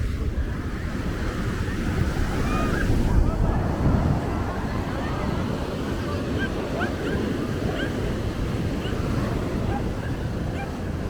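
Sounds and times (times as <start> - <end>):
surf washing on beach: 0.0 - 11.0
wind on microphone: 0.0 - 11.0.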